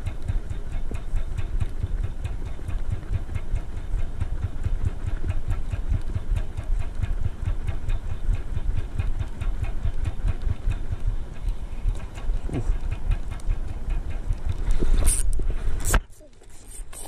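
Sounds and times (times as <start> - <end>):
spinning reel ticking: 0.0 - 16.0.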